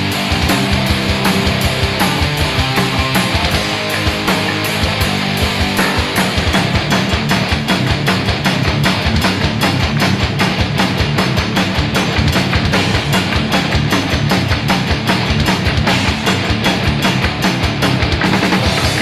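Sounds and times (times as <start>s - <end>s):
rock music with guitar and drums: 0.0s - 19.0s.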